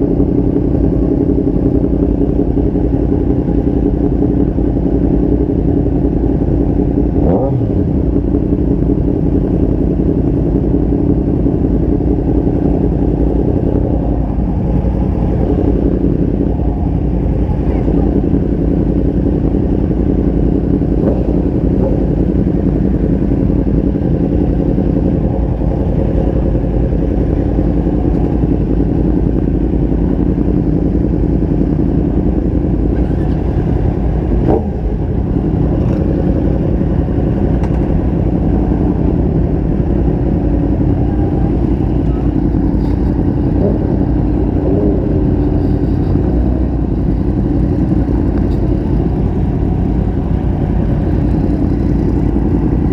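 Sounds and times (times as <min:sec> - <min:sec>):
motorcycle engine running: 0:00.0 - 0:52.9
road and wind noise: 0:00.0 - 0:52.9.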